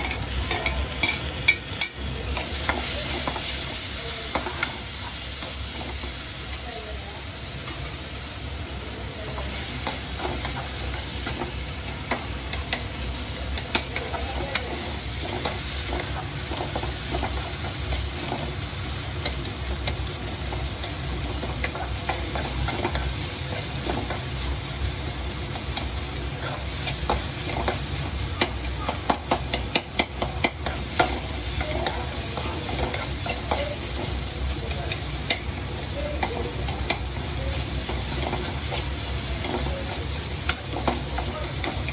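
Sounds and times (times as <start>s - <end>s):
oil sizzling in a pan: 0.0s - 41.9s.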